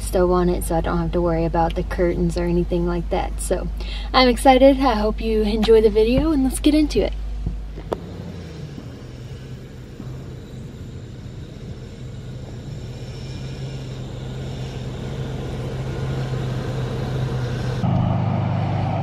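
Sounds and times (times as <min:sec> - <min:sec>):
minivan engine humming: 0:00.0 - 0:19.0.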